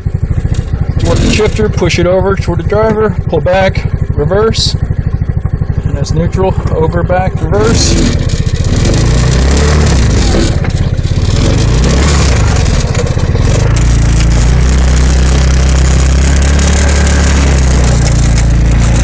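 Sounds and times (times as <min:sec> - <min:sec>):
buggy engine running: 0:00.0 - 0:19.0.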